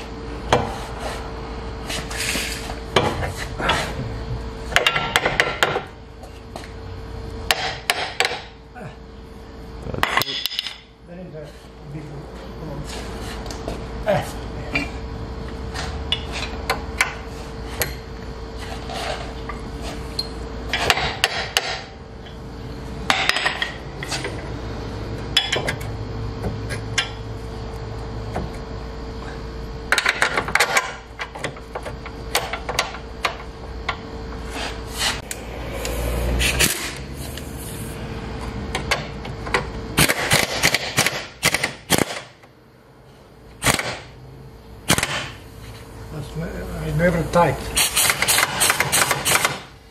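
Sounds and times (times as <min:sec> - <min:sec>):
steady hum: 0:00.0 - 0:49.9.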